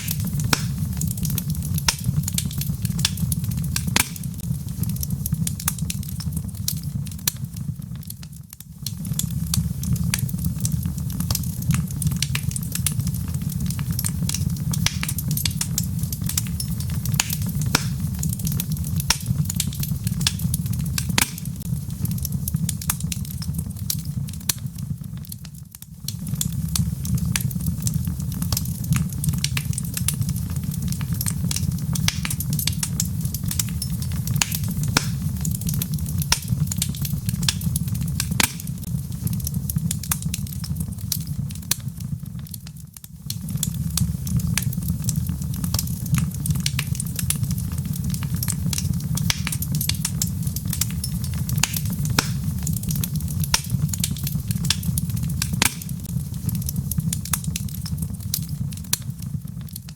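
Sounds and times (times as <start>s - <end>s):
log fire crackling: 0.0s - 59.9s.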